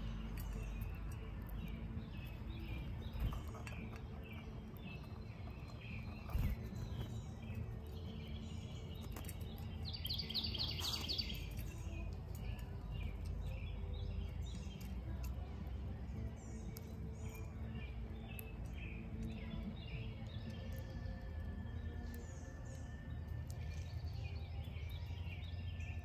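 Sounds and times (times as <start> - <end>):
low background hum: 0.0 - 26.0
wild birds chirping: 0.0 - 26.0.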